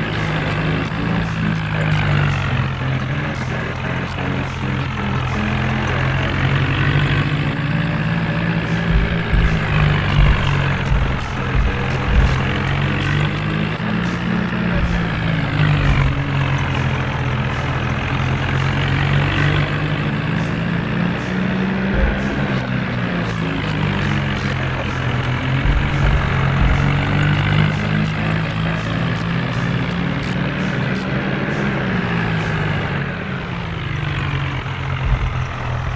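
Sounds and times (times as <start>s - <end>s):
diesel tractor engine running: 0.0s - 35.9s.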